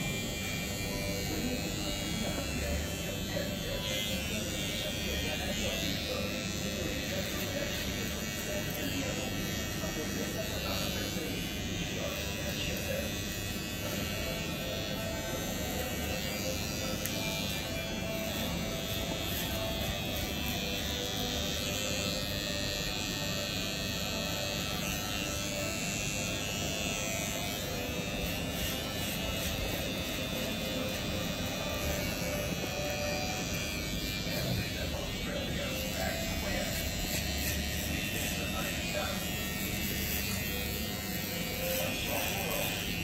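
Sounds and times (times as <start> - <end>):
electric hair clipper buzzing: 0.0 - 43.0.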